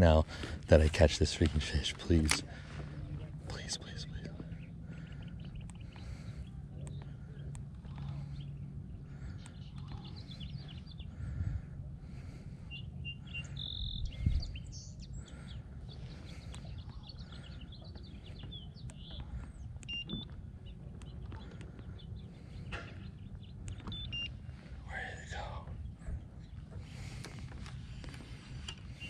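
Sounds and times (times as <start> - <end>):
small birds chirping and calling: 0.0 - 29.0.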